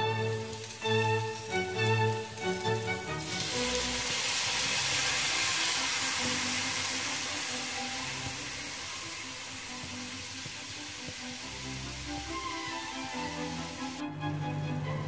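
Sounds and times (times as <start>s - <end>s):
juice sizzling in hot oil: 0.0s - 14.0s.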